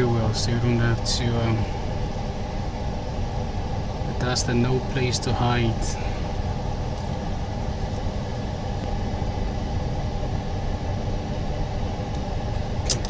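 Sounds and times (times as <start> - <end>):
faint steady tones: 0.0 - 12.9
machinery humming: 0.0 - 13.0.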